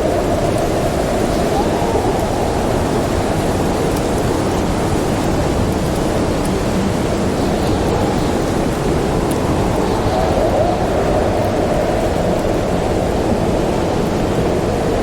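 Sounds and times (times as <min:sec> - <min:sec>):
snowstorm wind rushing: 0:00.0 - 0:15.0.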